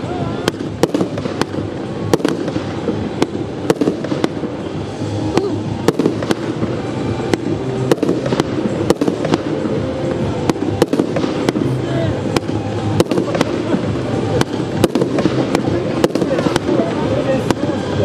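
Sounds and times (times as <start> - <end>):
continuous low rumble: 0.0 - 18.0
fireworks bangs: 0.0 - 18.0.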